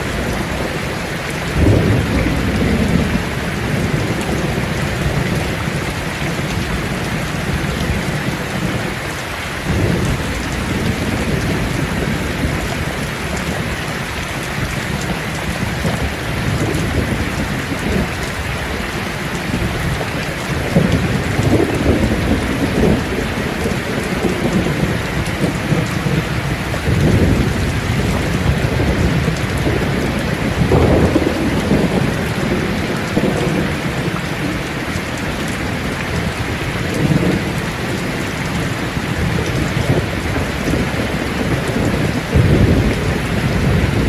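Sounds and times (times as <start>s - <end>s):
heavy rain on leaves: 0.0s - 44.0s
low thunder rumbling: 0.0s - 44.0s.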